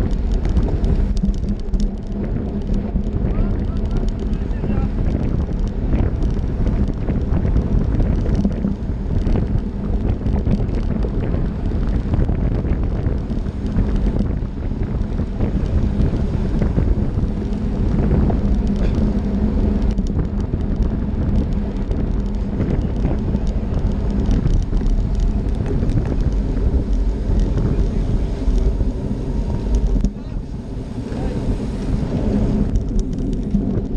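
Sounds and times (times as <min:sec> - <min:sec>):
road and tyre rumble: 0:00.0 - 0:33.9
wind rushing over microphone: 0:00.0 - 0:33.9.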